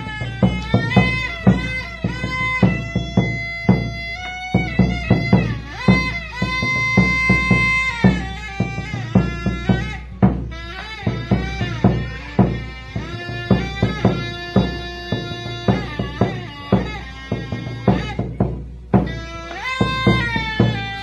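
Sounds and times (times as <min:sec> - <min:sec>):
high-pitched pipe melody: 0:00.0 - 0:21.0
large wooden drum beating: 0:00.0 - 0:21.0.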